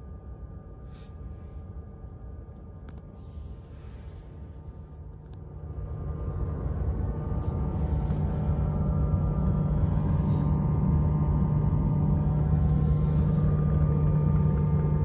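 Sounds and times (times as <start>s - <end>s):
cooling fan humming with whine: 0.0s - 15.0s.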